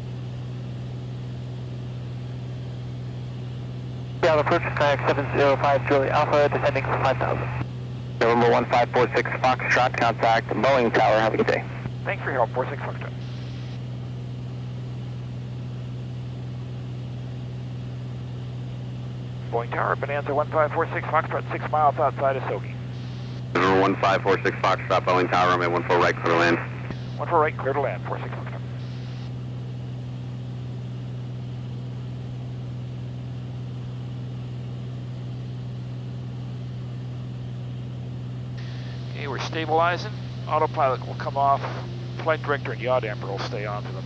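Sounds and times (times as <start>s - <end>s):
propeller plane engine drone: 0.0s - 44.0s.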